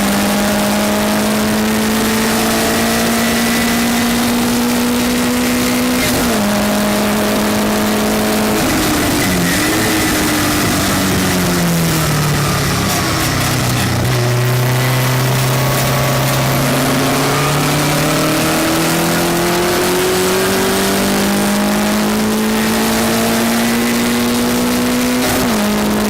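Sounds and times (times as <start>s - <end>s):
race car engine revving: 0.0s - 26.0s
wind and road noise: 0.0s - 26.0s.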